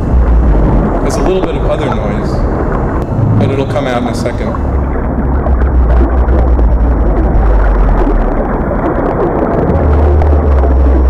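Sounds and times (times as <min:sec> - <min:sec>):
deep hum: 0:00.0 - 0:11.0
rumbling underwater noise: 0:00.0 - 0:11.0.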